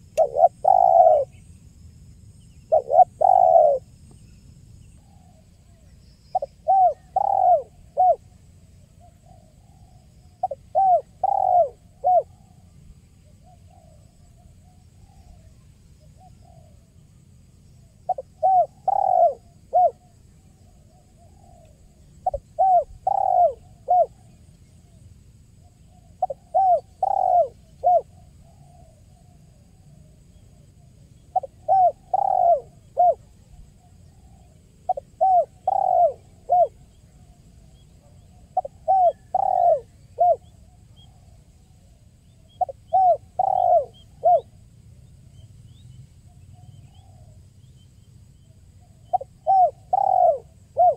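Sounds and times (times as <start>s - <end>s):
dove cooing: 0.0s - 1.4s, 2.7s - 4.0s, 6.3s - 12.6s, 13.4s - 16.9s, 17.9s - 25.0s, 25.8s - 44.6s, 46.6s - 47.4s, 48.9s - 50.9s.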